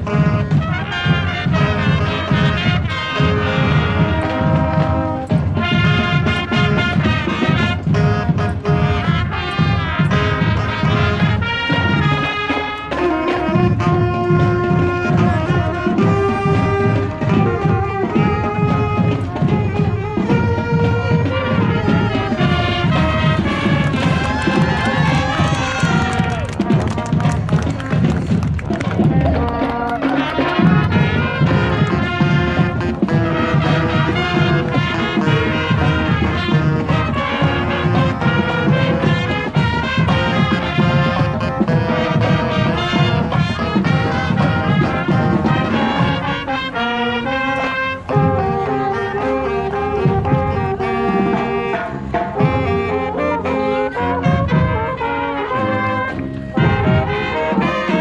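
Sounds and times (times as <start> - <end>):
heavy drum beat: 0.0 - 47.0, 47.7 - 53.2, 54.2 - 55.1, 56.5 - 58.0
marching band brass: 0.0 - 58.0.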